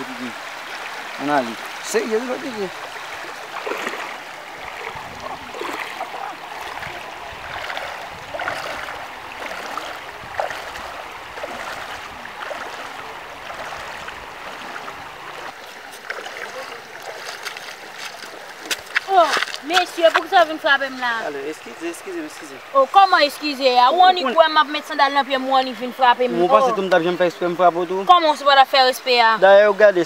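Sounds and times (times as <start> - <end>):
river flowing over stones: 0.0 - 30.0.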